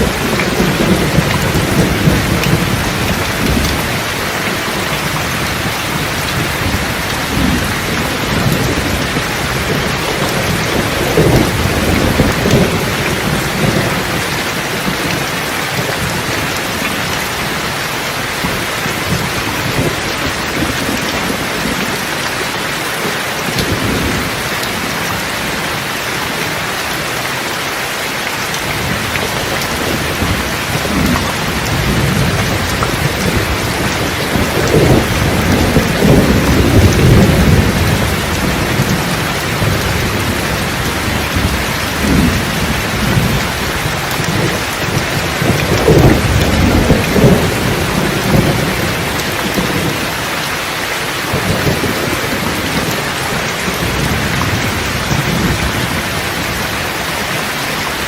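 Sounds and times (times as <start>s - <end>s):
low thunder rumbling: 0.0s - 22.7s, 23.4s - 26.6s, 28.7s - 57.8s
steady rain falling: 0.0s - 58.0s.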